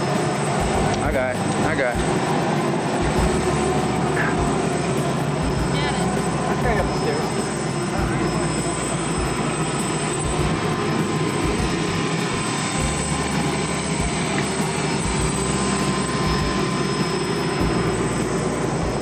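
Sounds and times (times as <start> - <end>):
airliner engine drone in cabin: 0.0 - 19.0
faint steady whine: 0.0 - 19.0.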